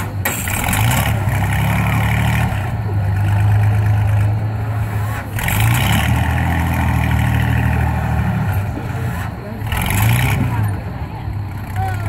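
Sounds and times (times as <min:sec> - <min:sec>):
vehicle engine running loud: 0:00.0 - 0:12.0.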